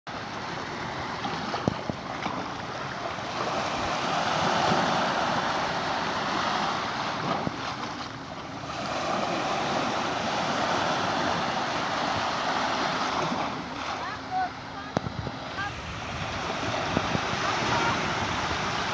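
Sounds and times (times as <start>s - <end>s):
sea waves breaking on beach: 0.1s - 18.9s.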